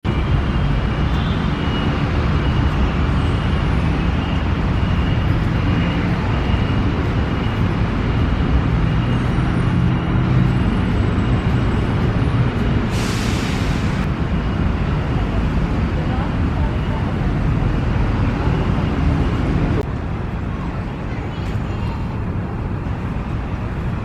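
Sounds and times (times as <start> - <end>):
city road traffic rumble: 0.0 - 24.0.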